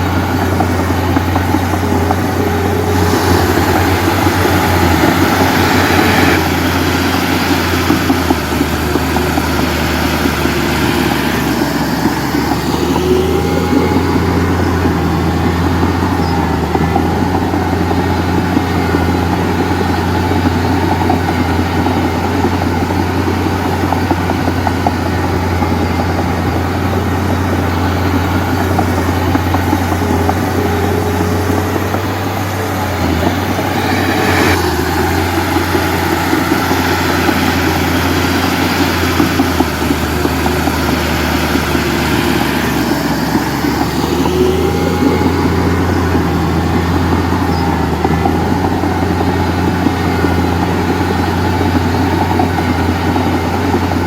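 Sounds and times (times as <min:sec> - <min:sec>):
diesel engine rattling drone: 0:00.0 - 0:54.0.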